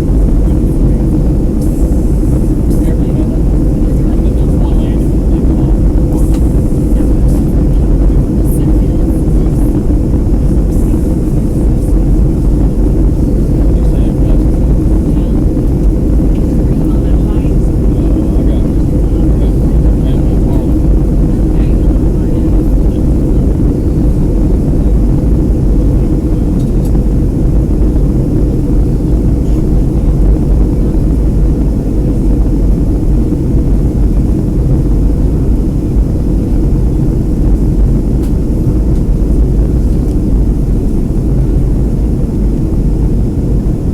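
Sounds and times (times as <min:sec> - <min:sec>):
airplane cabin roar: 0:00.0 - 0:43.9
faint steady hum: 0:00.0 - 0:43.9.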